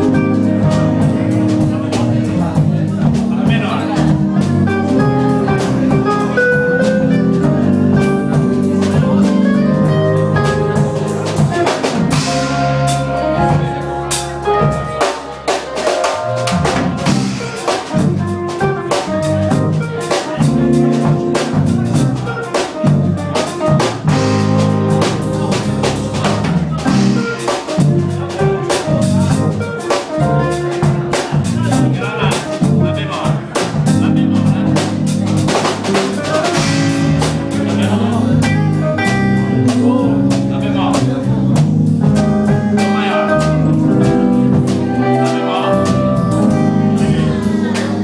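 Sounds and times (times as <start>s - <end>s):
band instruments playing: 0.0s - 48.0s
drum kit beat: 0.0s - 48.0s.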